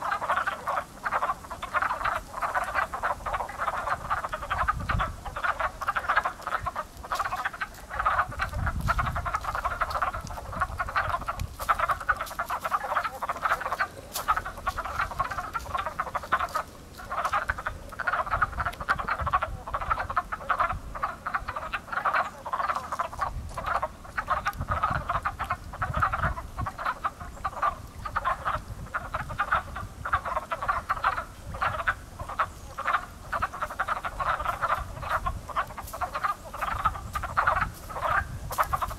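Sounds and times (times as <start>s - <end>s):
chorus of frogs croaking: 0.0s - 38.9s.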